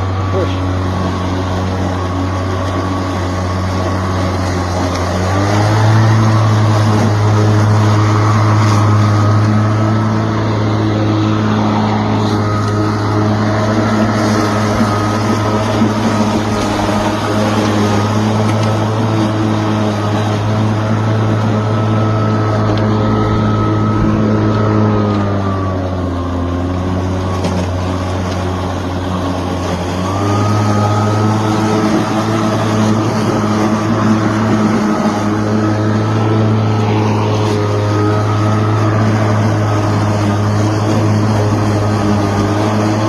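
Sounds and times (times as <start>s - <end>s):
lawn mower motor whining: 0.0s - 43.0s.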